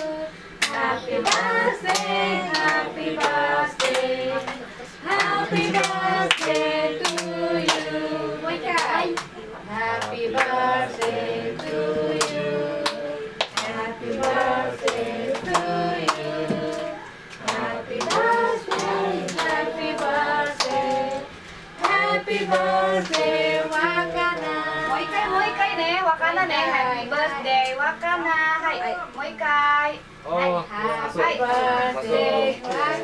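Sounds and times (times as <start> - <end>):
children and adults singing: 0.0 - 26.0, 30.7 - 33.0.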